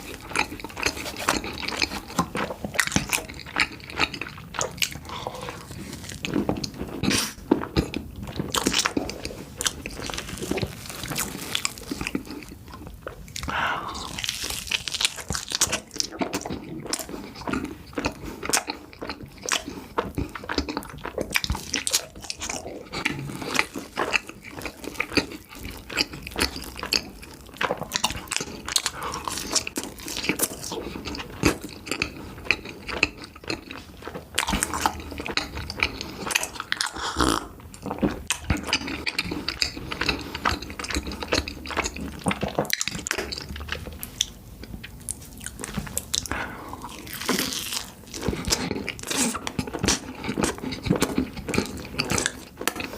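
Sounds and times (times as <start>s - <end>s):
biting and chewing cookies: 0.0s - 52.9s.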